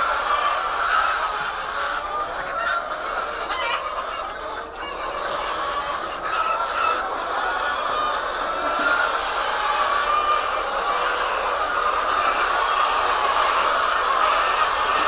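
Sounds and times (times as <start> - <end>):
flock of hens clucking: 0.0 - 15.0.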